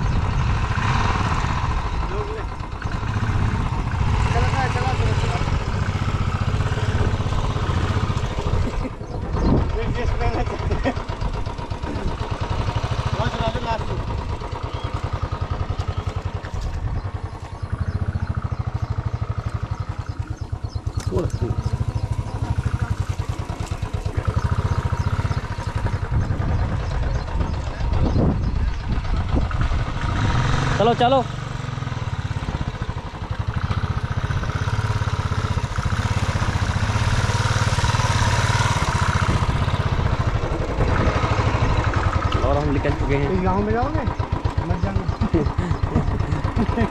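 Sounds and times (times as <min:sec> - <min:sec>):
motorcycle engine running low revs: 0:00.0 - 0:46.9.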